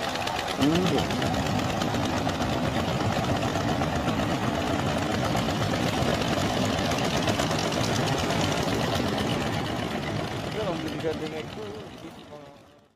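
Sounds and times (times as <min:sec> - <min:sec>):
boat engine chugging: 0:00.0 - 0:12.9.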